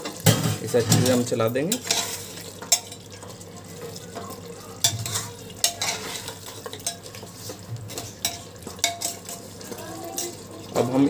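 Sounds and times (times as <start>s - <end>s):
food sizzling in a pot: 0.0s - 11.0s
metal spatula scraping a pot: 0.0s - 11.0s.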